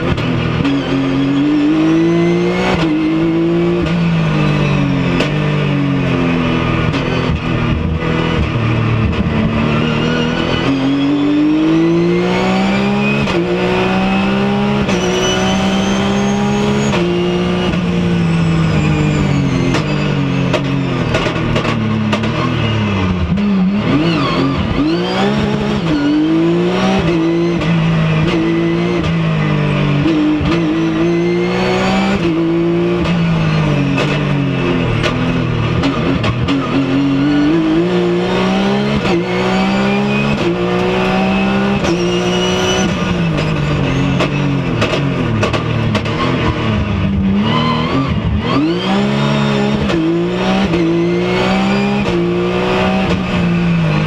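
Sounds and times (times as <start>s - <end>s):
car engine revving in cabin: 0.0s - 54.0s.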